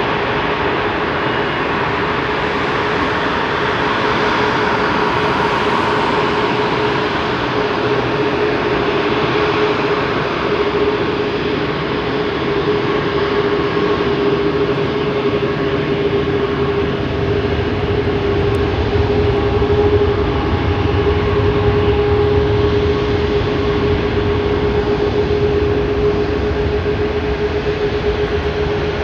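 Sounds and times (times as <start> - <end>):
jet engines whining: 0.2 - 29.0.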